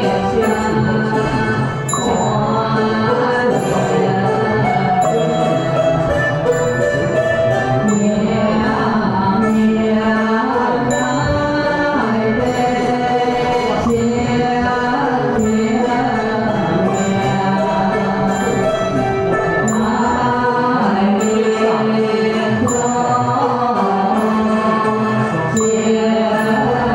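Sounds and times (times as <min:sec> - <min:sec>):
bell-like strikes: 0:00.0 - 0:26.9
chanting in long held notes: 0:00.0 - 0:26.9
instrumental music: 0:00.0 - 0:26.9.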